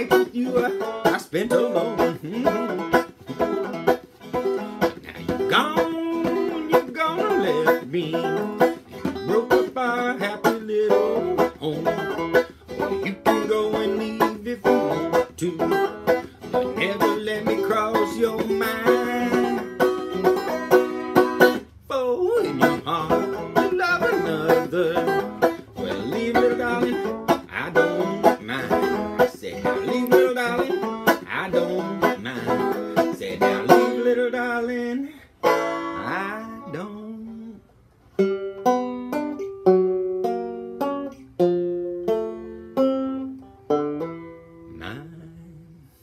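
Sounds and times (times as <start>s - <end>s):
banjo strumming and picking: 0.0s - 46.0s.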